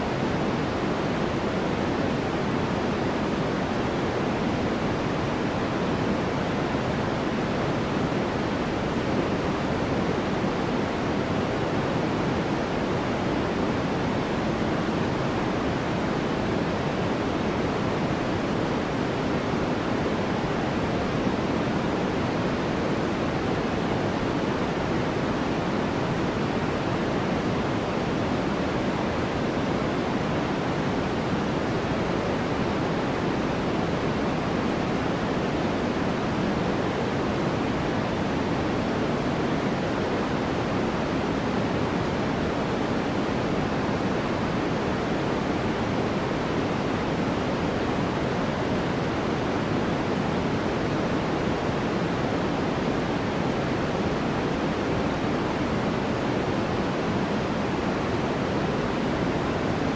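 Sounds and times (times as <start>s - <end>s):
steady low pink noise hiss: 0.0s - 59.9s.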